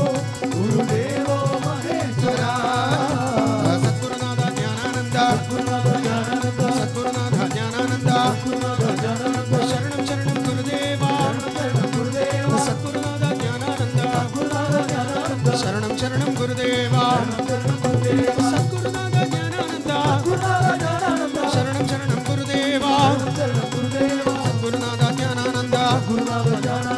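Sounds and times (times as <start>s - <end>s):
group of male voices singing: 0.0s - 26.9s
hand drum beats: 0.0s - 26.9s
harmonium: 0.0s - 26.9s
male lead voice singing: 0.0s - 26.9s.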